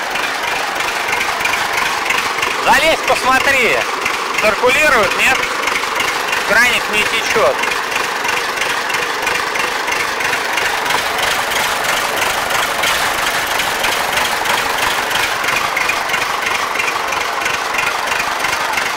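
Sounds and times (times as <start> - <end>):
diesel tractor engine idling: 0.0 - 18.9.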